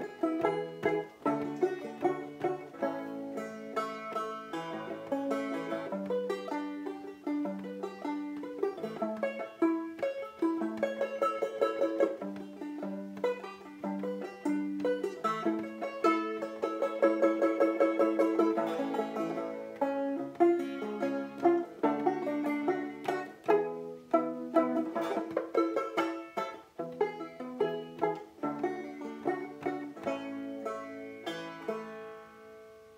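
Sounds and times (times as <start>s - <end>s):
solo banjo playing: 0.0s - 32.9s.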